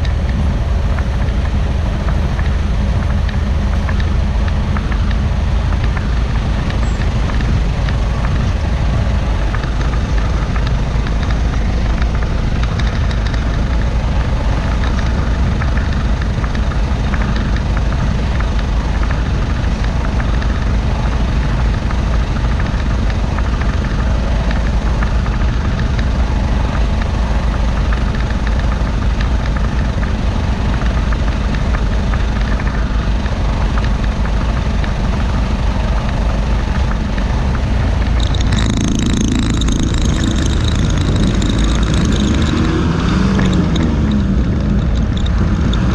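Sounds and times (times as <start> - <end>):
diesel truck engine idling: 0.0 - 45.9.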